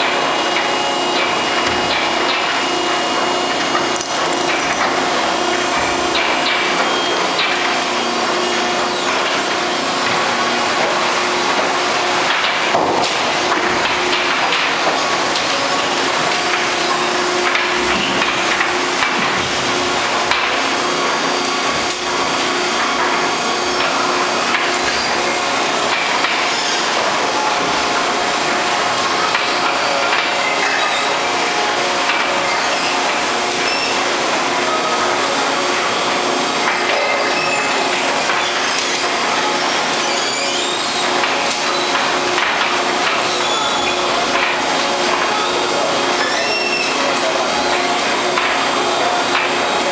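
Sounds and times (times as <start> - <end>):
constant machine hum: 0.0 - 49.9.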